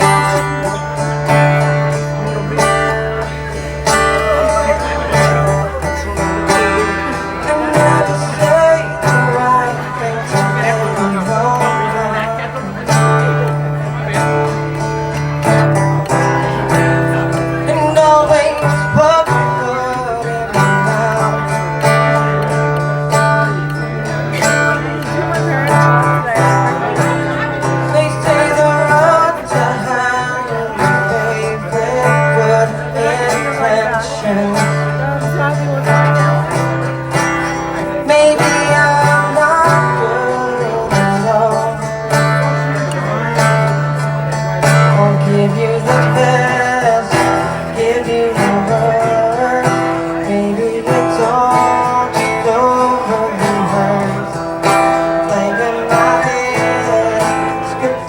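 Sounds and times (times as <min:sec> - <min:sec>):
guitar playing: 0:00.0 - 0:58.0
person singing: 0:00.0 - 0:58.0.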